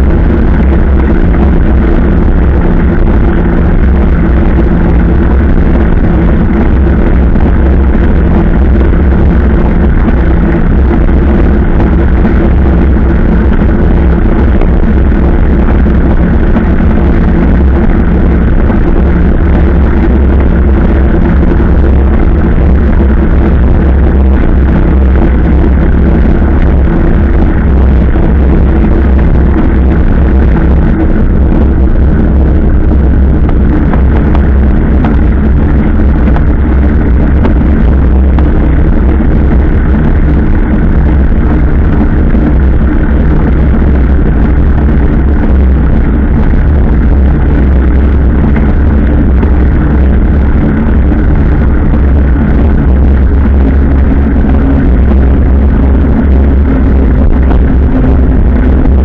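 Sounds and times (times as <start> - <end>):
steady drone: 0.0 - 59.0
wind buffeting microphone: 0.0 - 59.0.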